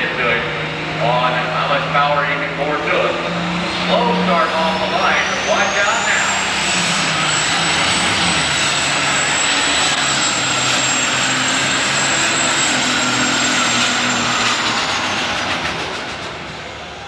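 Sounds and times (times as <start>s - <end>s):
diesel tractor engine running hard: 0.0s - 17.0s
high turbo whine: 0.0s - 17.0s.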